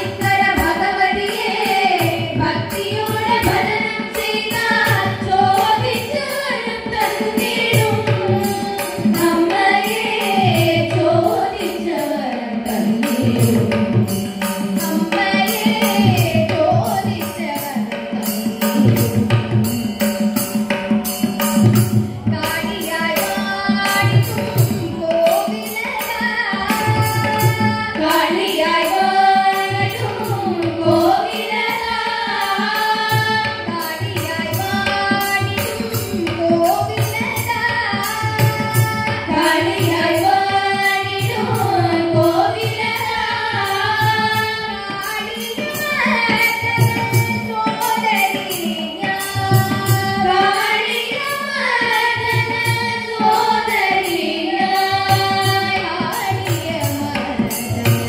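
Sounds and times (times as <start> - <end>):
mridangam drum rhythm: 0.0 - 58.0
women singing devotional song: 0.0 - 58.0.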